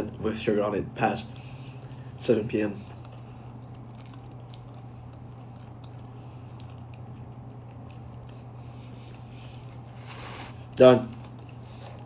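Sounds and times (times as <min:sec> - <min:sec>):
steady low hum: 0:00.0 - 0:12.0
person chewing pastry: 0:01.3 - 0:12.0.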